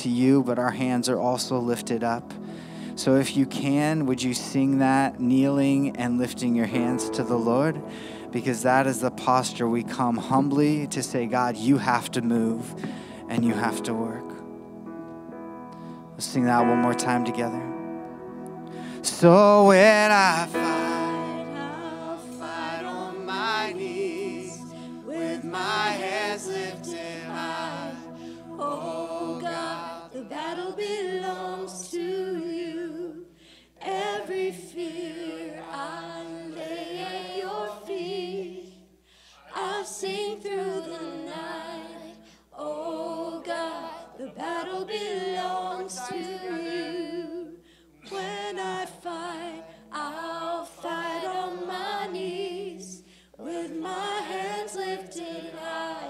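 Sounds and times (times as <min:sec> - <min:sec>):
congregation singing a cappella: 0:00.0 - 0:14.5, 0:18.6 - 0:56.0.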